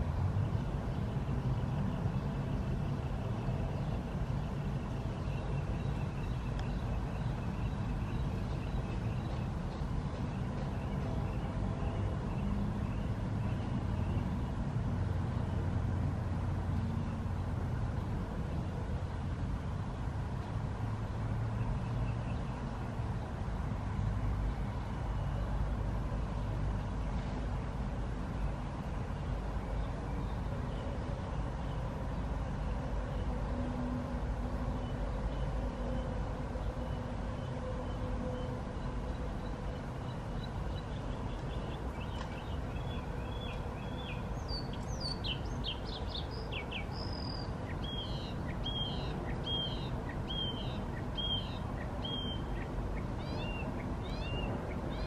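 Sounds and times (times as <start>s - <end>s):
distant traffic rumble: 0.0s - 55.0s.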